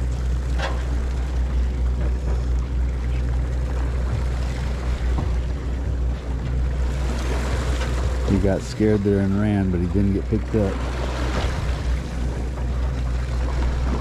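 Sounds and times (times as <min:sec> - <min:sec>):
boat engine rumbling: 0:00.0 - 0:14.0
water washing along hull: 0:00.0 - 0:14.0.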